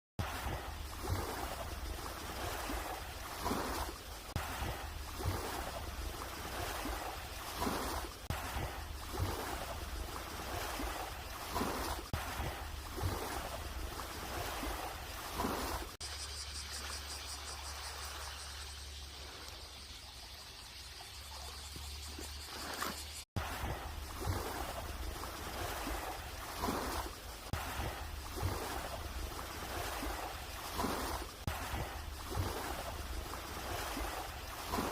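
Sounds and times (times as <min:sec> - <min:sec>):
small waves washing ashore: 0:00.2 - 0:34.9.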